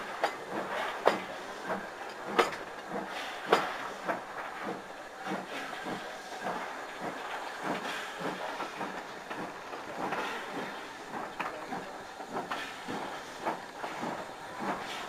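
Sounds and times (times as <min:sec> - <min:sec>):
train rushing noise: 0:00.0 - 0:15.0
train wheel knocks: 0:00.1 - 0:14.9.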